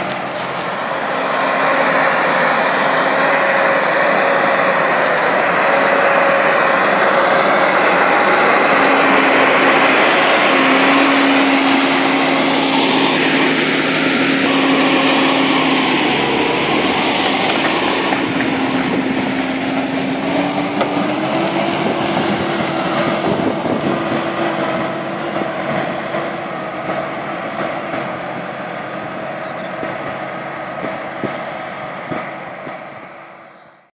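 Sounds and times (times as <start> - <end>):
tractor diesel engine working: 0.0 - 33.9.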